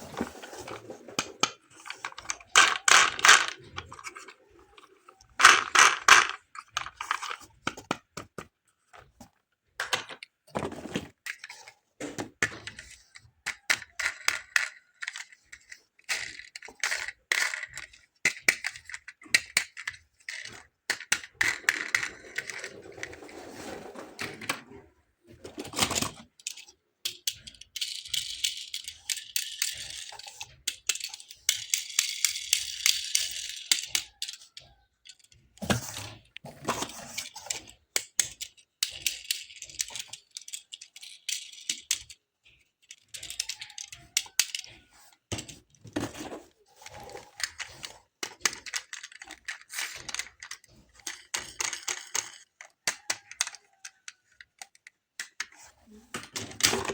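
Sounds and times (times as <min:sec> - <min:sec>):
toy cars clicking and rattling: 0:00.2 - 0:08.4, 0:09.8 - 0:24.8, 0:25.4 - 0:56.9.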